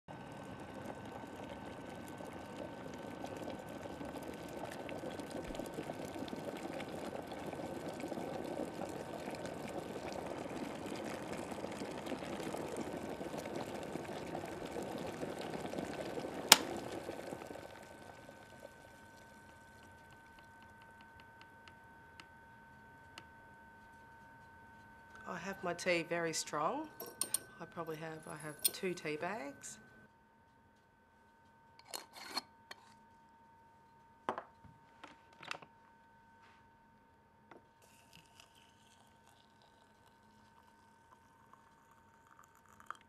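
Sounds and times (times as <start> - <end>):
electric kettle boiling water: 0.1 - 29.8, 37.5 - 43.0.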